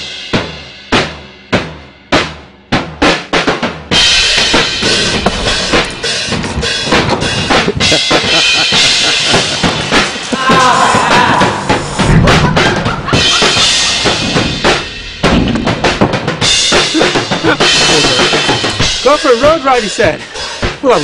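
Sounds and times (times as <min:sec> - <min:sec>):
drum kit playing: 0:00.0 - 0:21.0.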